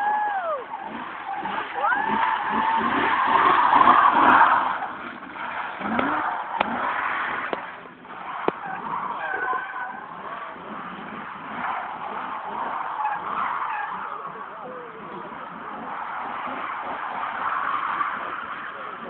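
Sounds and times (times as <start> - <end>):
car engine revving: 0.0 - 19.0
tyres squealing and skidding: 0.0 - 19.0.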